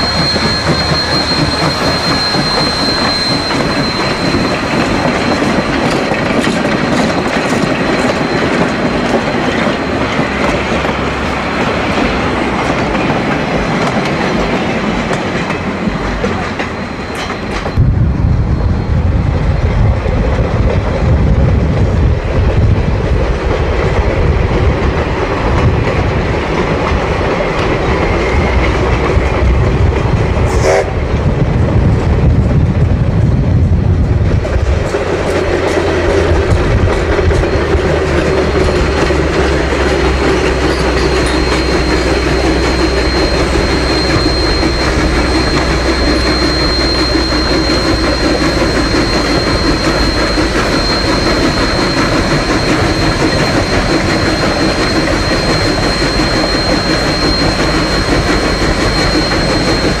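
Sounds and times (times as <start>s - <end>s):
steam locomotive wheels clattering: 0.0s - 17.9s, 19.8s - 60.0s.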